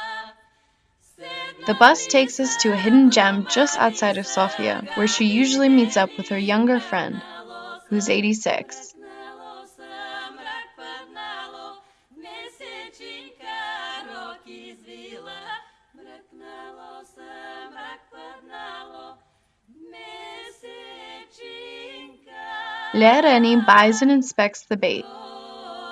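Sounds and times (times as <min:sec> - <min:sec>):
a cappella voices in harmony: 0:00.0 - 0:25.9.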